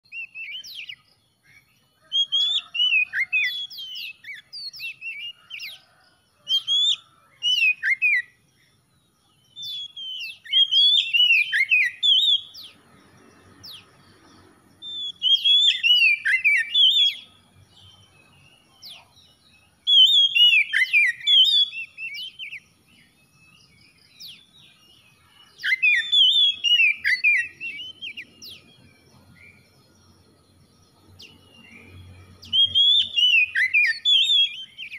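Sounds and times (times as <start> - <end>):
bird singing whistled notes: 0.0 - 34.9.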